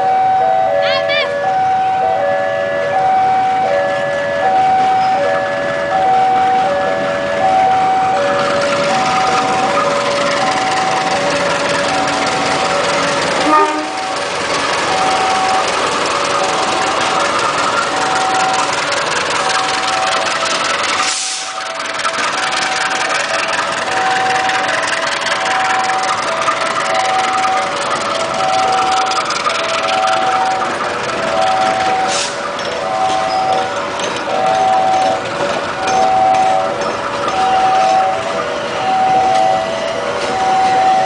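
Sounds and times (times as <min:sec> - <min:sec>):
diesel train running past: 0:00.0 - 0:41.0
level-crossing warning alarm: 0:00.0 - 0:41.0.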